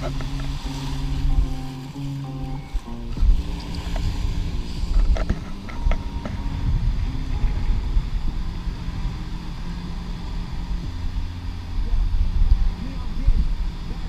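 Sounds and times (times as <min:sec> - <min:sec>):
waves washing on sand: 0:00.0 - 0:14.0
wind rumbling on microphone: 0:00.0 - 0:14.0.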